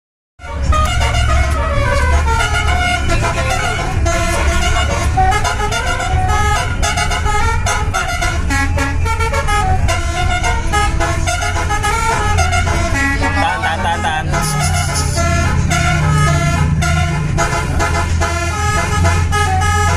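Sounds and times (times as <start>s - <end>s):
bus rumble: 0.4s - 19.9s
melody of pitched notes: 0.4s - 19.9s.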